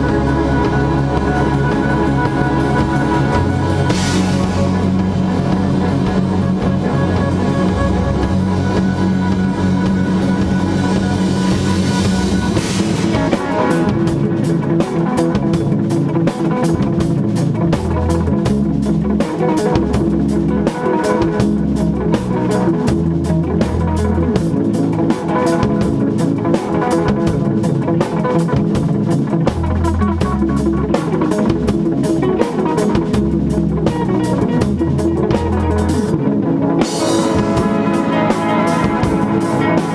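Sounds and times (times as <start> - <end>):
bass notes: 0.0 - 39.9
distorted electric guitars: 0.0 - 39.9
drum kit with cymbal hits: 0.0 - 39.9.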